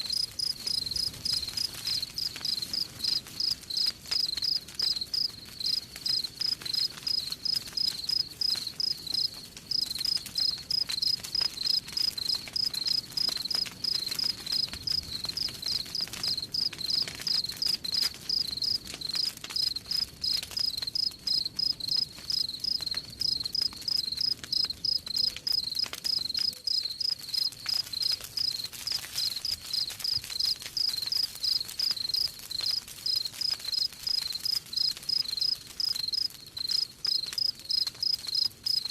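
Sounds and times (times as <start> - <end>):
faint campfire crackle: 0.0 - 38.9
crickets chirping: 0.1 - 13.3, 16.3 - 19.8, 20.6 - 28.5, 30.8 - 32.3, 33.1 - 38.9.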